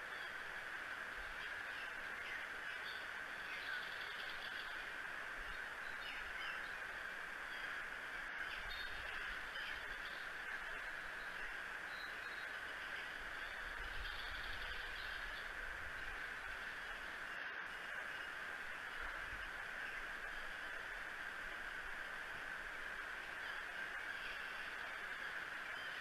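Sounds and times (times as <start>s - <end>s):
distant bird calls: 0.0s - 22.1s, 22.8s - 26.0s
steady hiss: 0.0s - 26.0s.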